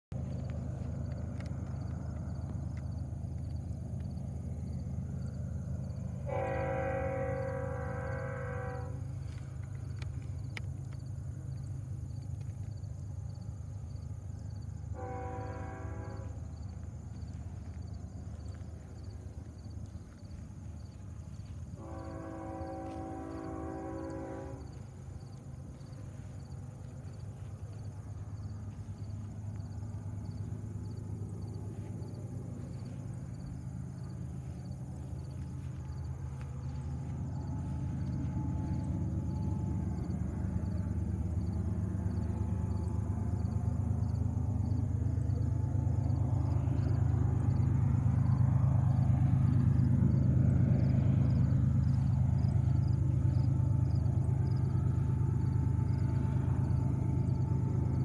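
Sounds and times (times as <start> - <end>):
diesel locomotive rumble: 0.1 - 58.0
insects chirping: 0.1 - 58.0.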